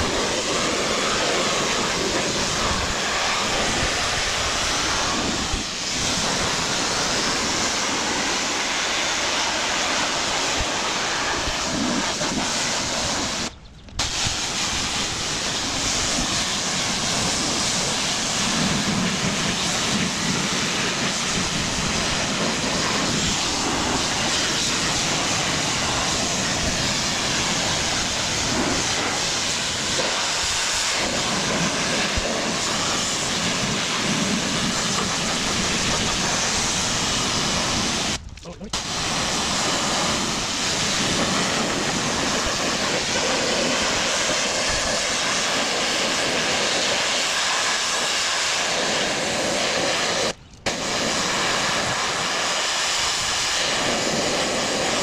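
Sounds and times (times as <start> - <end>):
pressure washer engine running: 0.0 - 38.2, 38.8 - 55.0
water spray hissing: 0.0 - 55.0.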